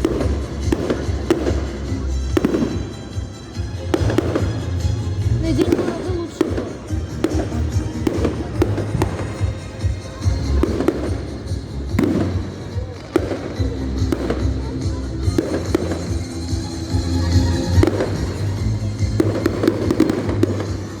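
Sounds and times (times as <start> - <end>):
fireworks bangs: 0.0 - 21.0
music: 0.0 - 21.0.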